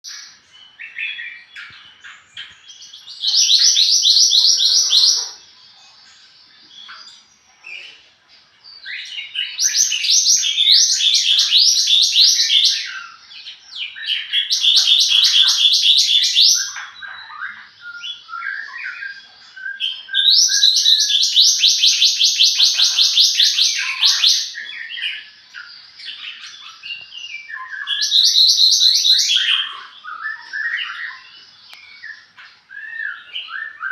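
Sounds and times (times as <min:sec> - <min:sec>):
songbird singing high trills: 0:00.0 - 0:08.0, 0:08.8 - 0:33.9
soft bird chirps and twitters: 0:00.0 - 0:33.9.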